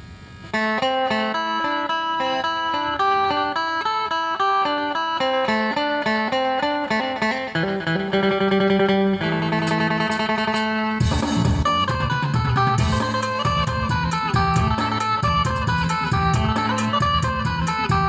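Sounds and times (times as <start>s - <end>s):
plucked lute melody: 0.6s - 18.0s.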